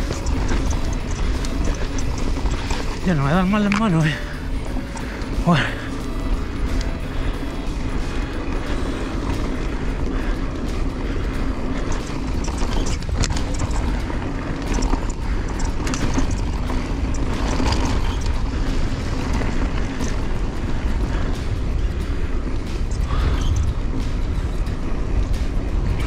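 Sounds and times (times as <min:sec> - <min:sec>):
wind on microphone: 0:00.0 - 0:03.8, 0:06.2 - 0:26.0
bike clicks and rattles: 0:00.0 - 0:26.0
tyres rolling over dirt and stones: 0:00.0 - 0:26.0.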